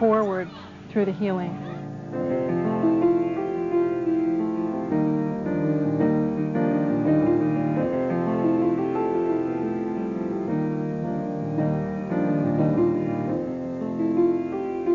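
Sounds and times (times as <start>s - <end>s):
slow gentle instrumental music: 0.0s - 14.9s.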